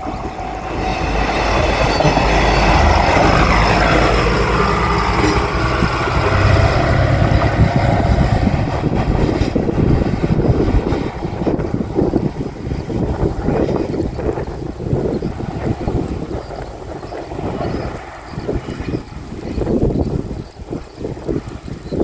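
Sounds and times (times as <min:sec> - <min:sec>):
diesel railcar passing: 0:00.0 - 0:22.0
train wheels clattering on rails: 0:00.0 - 0:22.0.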